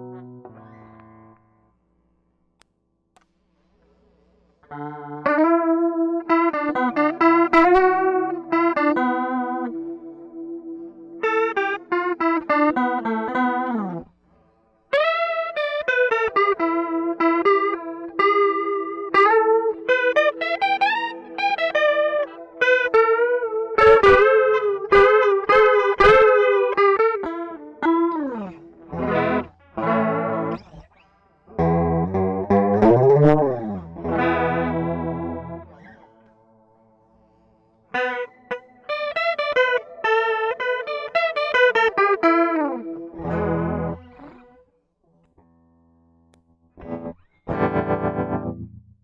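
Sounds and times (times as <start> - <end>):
electric guitar notes: 0.0 - 1.7, 4.6 - 14.1, 14.9 - 44.7, 45.4 - 48.9.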